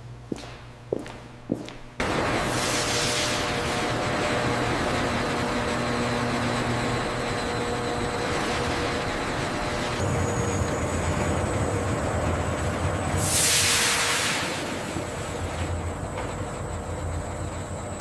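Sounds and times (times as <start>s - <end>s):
machine humming with high whine: 0.0s - 18.0s.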